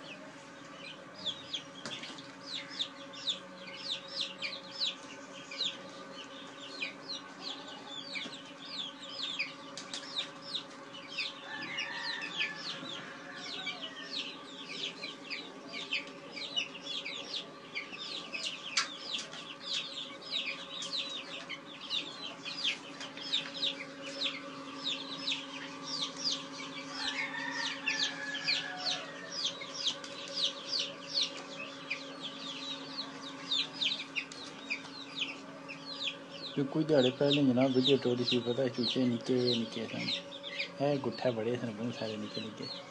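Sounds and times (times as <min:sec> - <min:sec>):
chicks peeping: 0:00.0 - 0:42.9
steady low hum: 0:00.0 - 0:42.9.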